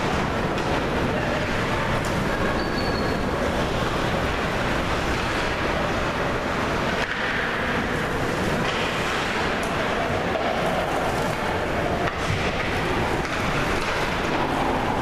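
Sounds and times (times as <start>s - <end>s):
steady rushing noise: 0.0s - 2.6s, 3.2s - 15.0s.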